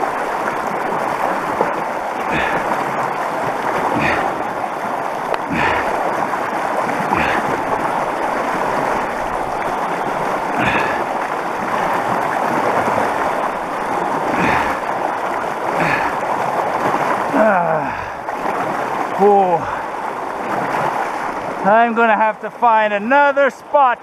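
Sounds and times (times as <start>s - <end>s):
legs wading splashing: 0.0s - 22.6s
river rushing: 0.0s - 24.0s.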